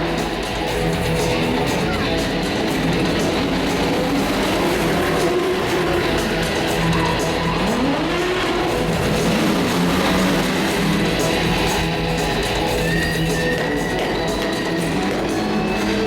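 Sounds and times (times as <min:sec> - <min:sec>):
car engine revving: 0:00.0 - 0:16.0
loud rock music: 0:00.0 - 0:16.0.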